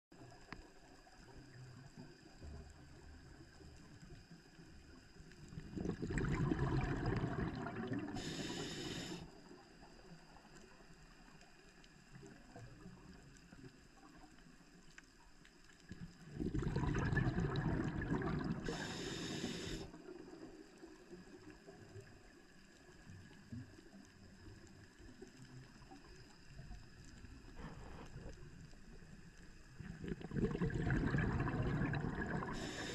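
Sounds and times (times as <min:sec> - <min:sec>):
regulator bubbles gurgling underwater: 0:00.1 - 0:32.9
faint wash of water: 0:00.2 - 0:32.9.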